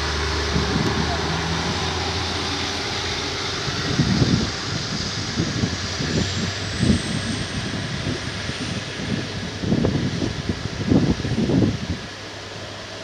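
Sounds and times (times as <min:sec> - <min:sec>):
wind buffeting microphone: 0:00.0 - 0:12.8
diesel train engine under load: 0:00.0 - 0:13.0.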